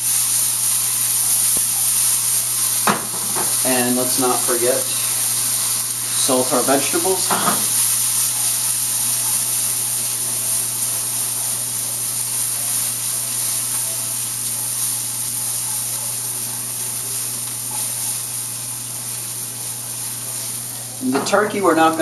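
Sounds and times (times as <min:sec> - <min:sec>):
vegetables sizzling in a skillet: 0:00.0 - 0:22.0.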